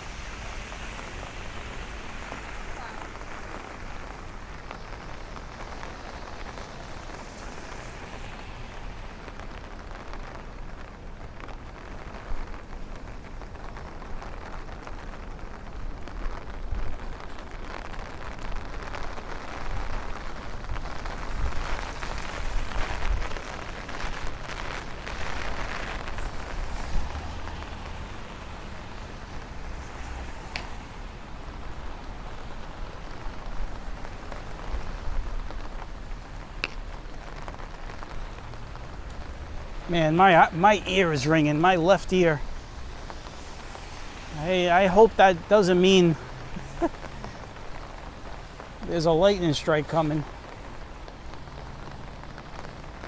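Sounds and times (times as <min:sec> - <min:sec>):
rain drops ticking: 0:00.0 - 0:53.0.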